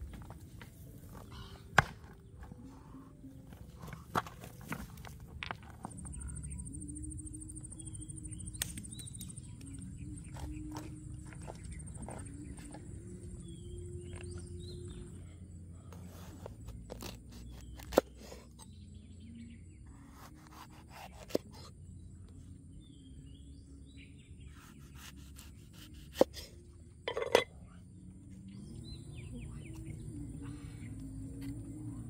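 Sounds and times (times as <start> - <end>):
birds chirping faintly: 0.0 - 32.0.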